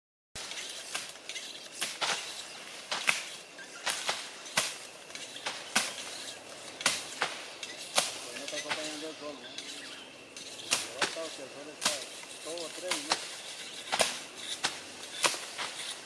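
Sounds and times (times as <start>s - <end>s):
machete chopping through grass: 0.4s - 9.0s, 10.5s - 16.0s.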